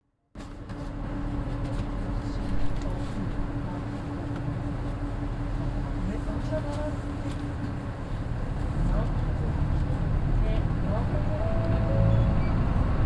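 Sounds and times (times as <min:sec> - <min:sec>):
bus diesel engine humming: 0:00.5 - 0:13.0.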